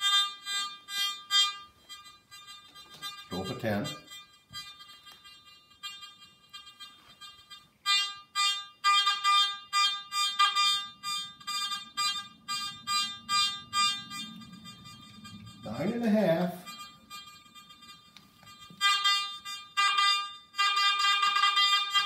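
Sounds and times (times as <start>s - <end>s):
metal detector buzzy tone: 0.0s - 22.0s.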